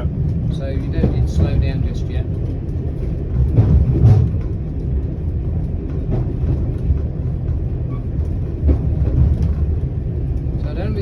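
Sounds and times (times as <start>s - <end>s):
diesel railcar rumbling: 0.0s - 11.0s.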